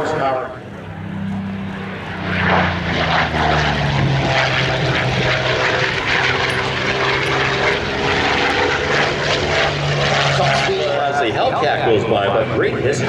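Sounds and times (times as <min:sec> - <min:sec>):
propeller plane engine passing: 0:00.0 - 0:13.0.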